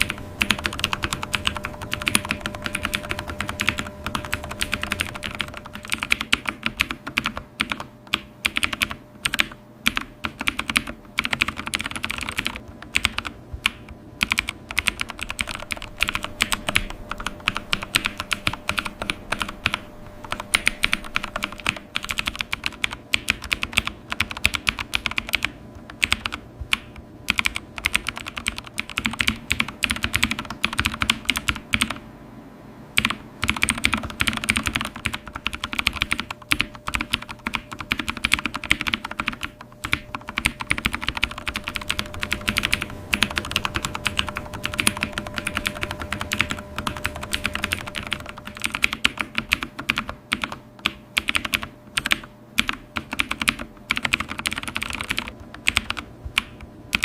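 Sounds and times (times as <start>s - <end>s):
keyboard typing: 0.0s - 32.0s, 33.0s - 57.0s.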